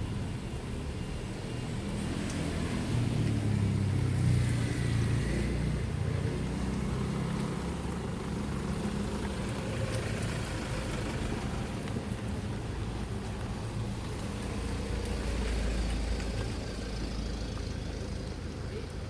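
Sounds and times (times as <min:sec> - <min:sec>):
steady traffic noise: 0:00.0 - 0:19.0
vehicle engine rumble passing: 0:00.0 - 0:19.0.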